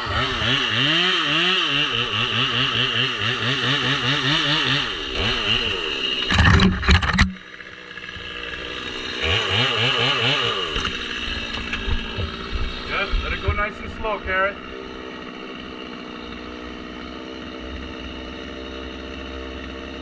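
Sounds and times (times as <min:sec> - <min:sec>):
chainsaw cutting: 0:00.0 - 0:20.0.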